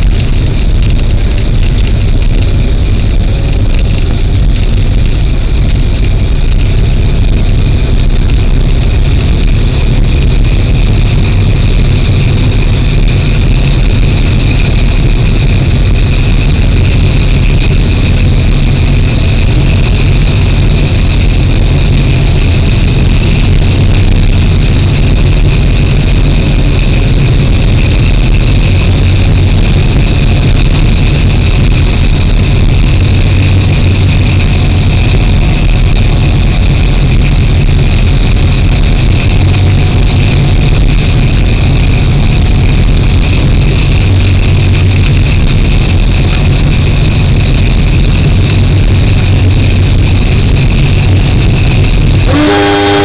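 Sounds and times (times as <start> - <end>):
high-pitched whine: 0.0 - 53.0
train low rumble: 0.0 - 53.0.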